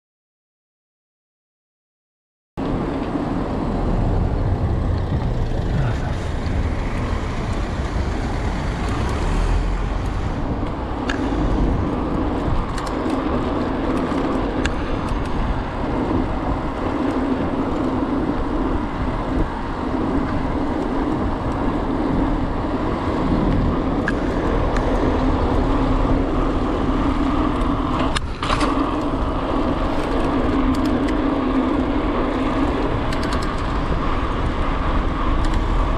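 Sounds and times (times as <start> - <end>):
bicycle tyres rolling on asphalt: 2.6 - 35.9
car traffic: 2.6 - 35.9
wind rumble on microphone: 2.6 - 35.9.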